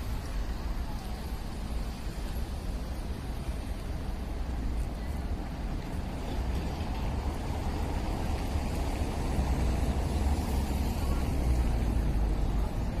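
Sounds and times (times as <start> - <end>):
city road traffic rumble: 0.0 - 13.0.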